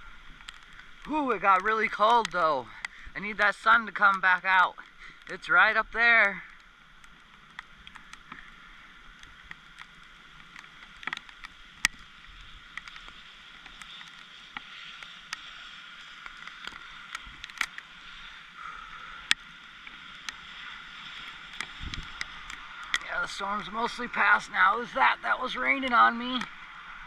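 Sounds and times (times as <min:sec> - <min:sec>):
light rain hiss: 0:00.0 - 0:27.0
raindrops tapping: 0:00.0 - 0:27.0.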